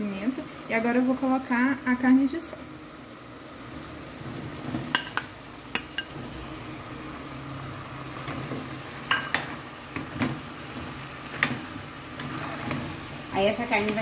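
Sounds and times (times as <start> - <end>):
meat sizzling in a metal pot: 0.0 - 14.0.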